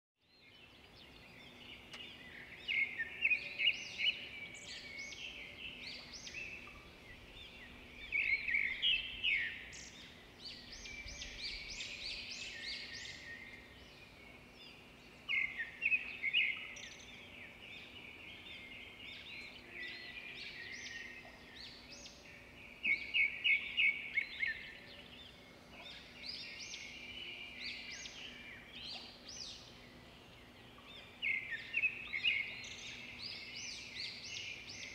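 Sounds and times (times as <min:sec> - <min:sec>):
birds chirping and trilling: 0:00.2 - 0:34.9.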